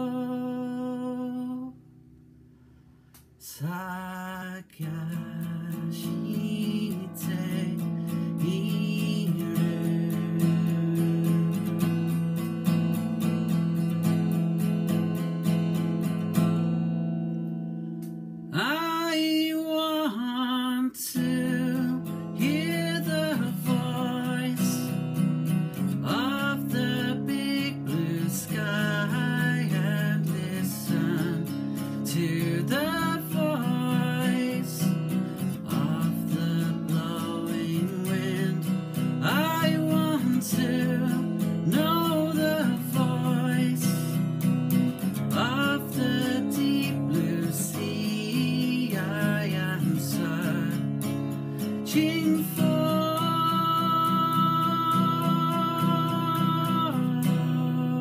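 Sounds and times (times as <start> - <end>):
man singing: 0.0 - 1.8, 3.4 - 11.7, 18.5 - 25.0, 25.8 - 44.3, 45.0 - 58.0
strummed acoustic guitar: 0.0 - 58.0.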